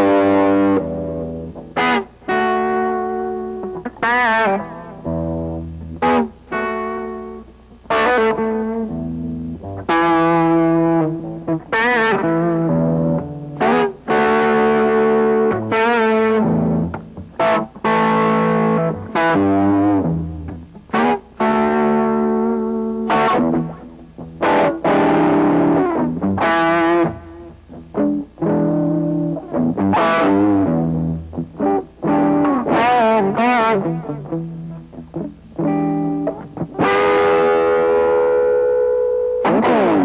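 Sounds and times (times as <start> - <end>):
distorted electric guitar music: 0.0 - 40.0.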